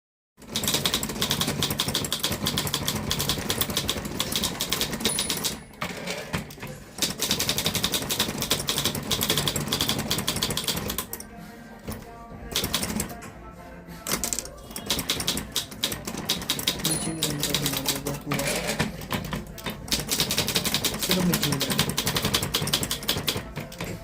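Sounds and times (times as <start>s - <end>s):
manual typewriter keystrokes: 0.4s - 11.3s, 11.9s - 13.2s, 14.0s - 24.0s.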